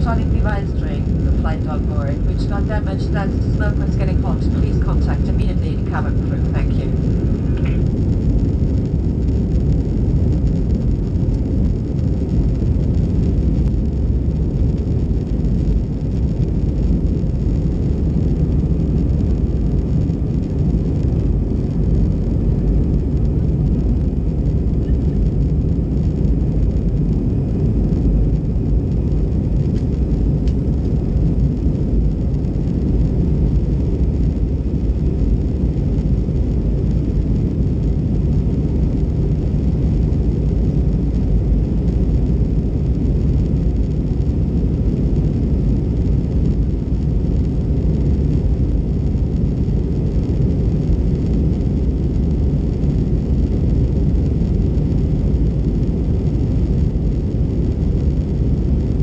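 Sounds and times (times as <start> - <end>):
jet engine rumble: 0.0 - 59.0.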